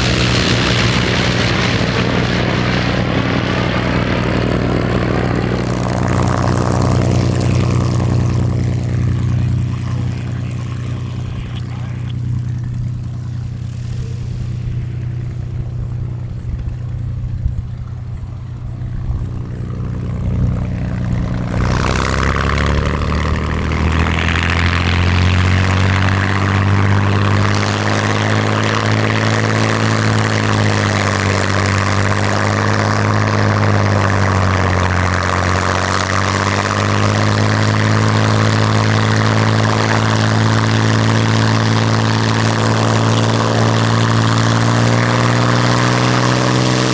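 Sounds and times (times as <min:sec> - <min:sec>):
propeller plane piston engine: 0:00.0 - 0:46.9.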